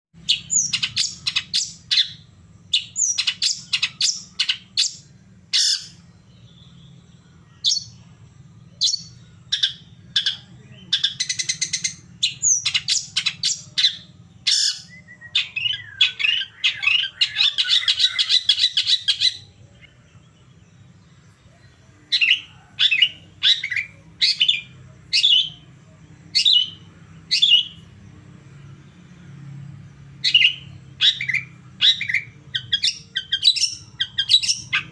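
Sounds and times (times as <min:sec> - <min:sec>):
faint low hum: 0:00.2 - 0:34.9
shrike song with rattling trills: 0:00.2 - 0:34.9.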